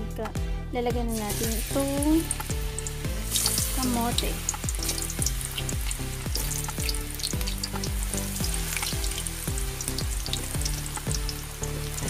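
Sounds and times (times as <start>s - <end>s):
background music with beat: 0.0s - 12.0s
food sizzling in hot oil: 1.1s - 12.0s.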